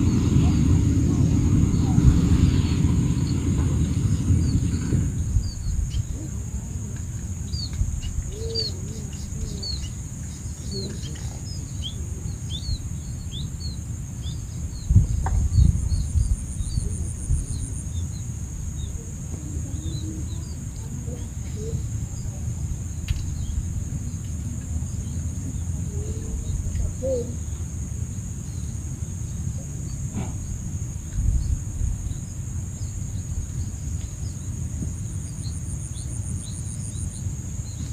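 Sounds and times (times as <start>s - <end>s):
constant high hum: 0.0s - 37.9s
small birds chirping: 0.0s - 37.9s
steady low rumble: 0.0s - 37.9s.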